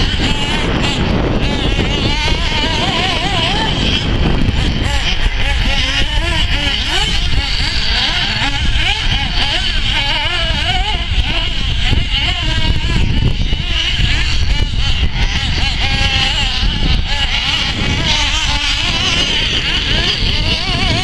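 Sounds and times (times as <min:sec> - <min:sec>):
small engines buzzing and revving: 0:00.0 - 0:21.0.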